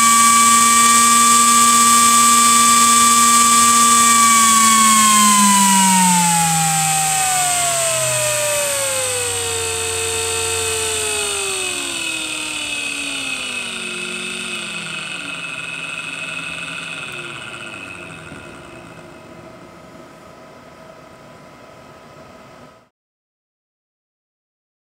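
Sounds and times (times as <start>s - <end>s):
fan whine spinning down: 0.0s - 22.9s.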